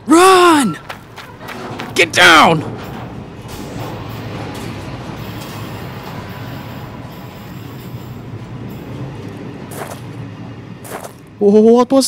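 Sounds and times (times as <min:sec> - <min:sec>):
steady rushing noise: 0:00.7 - 0:12.0
low rumble: 0:00.8 - 0:11.4.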